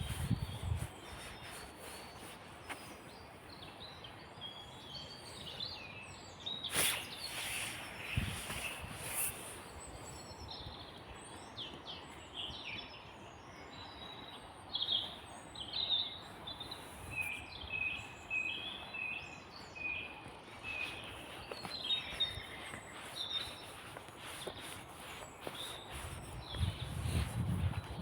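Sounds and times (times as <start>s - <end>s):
songbirds chirping and trilling: 0.0s - 28.0s.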